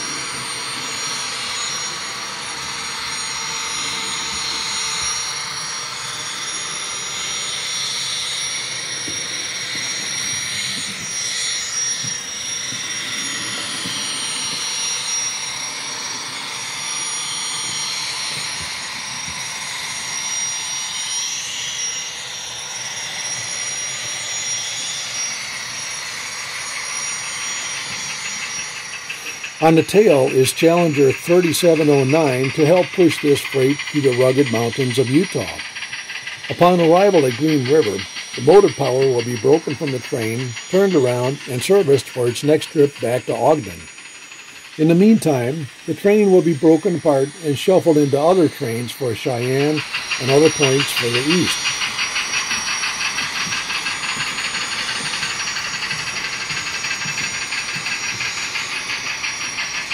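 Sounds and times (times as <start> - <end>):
jet-like turbine whine: 0.0 - 59.9.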